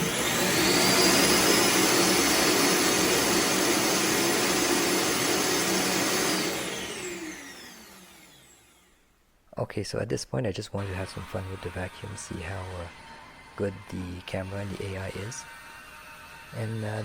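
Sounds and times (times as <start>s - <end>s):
robot vacuum dock whining: 0.0s - 8.9s, 10.8s - 17.0s.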